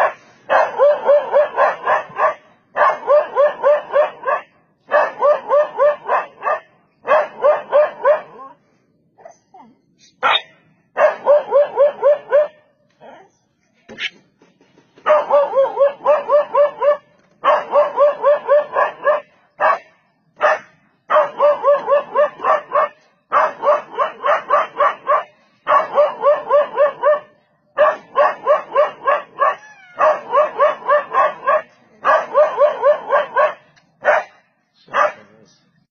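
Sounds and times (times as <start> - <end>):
dog barking: 0.0 - 8.5, 10.2 - 12.6, 15.0 - 35.3.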